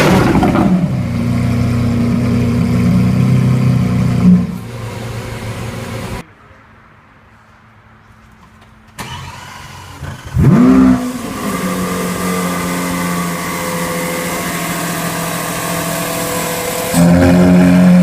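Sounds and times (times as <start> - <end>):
car engine revving and idling: 0.0 - 6.2, 9.0 - 18.0.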